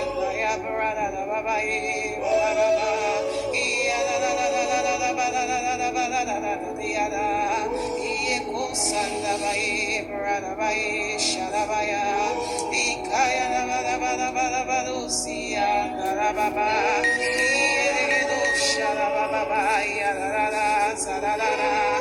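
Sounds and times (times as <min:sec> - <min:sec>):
person singing: 0:00.0 - 0:22.0
sustained music backing: 0:00.0 - 0:22.0.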